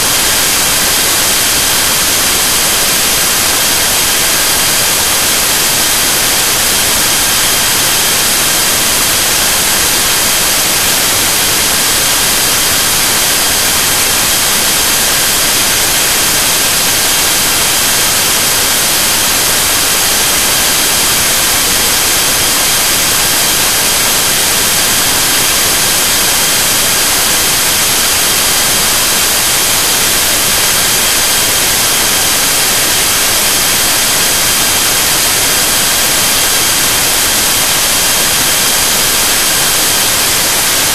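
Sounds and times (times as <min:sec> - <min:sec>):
loud static hiss: 0:00.0 - 0:40.9.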